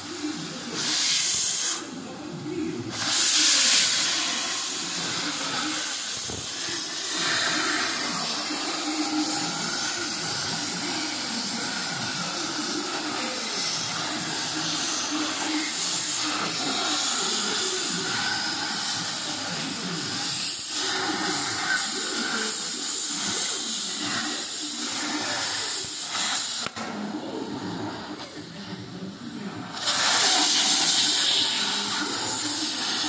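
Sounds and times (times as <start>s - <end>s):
cutting torch hissing: 0.0s - 33.0s.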